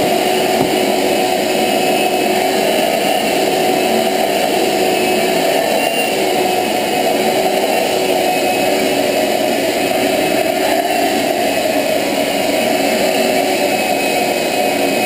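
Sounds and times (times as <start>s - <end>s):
shop vacuum running: 0.0s - 15.0s.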